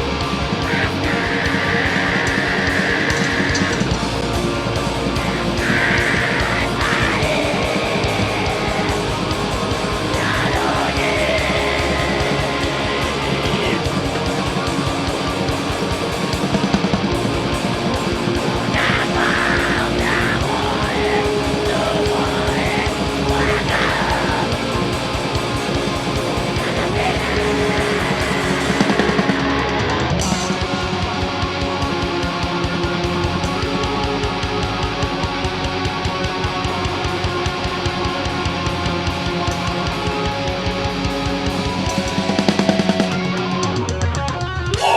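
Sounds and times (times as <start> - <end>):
live heavy metal band: 0.0 - 44.9.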